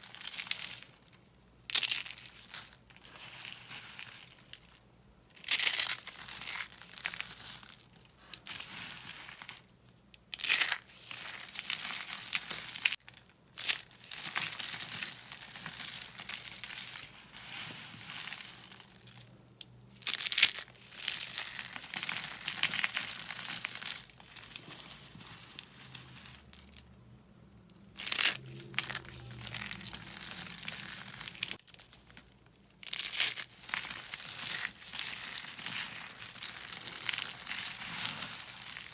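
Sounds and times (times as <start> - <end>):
dry soap crunching and crumbling: 0.0 - 27.0, 27.6 - 38.9.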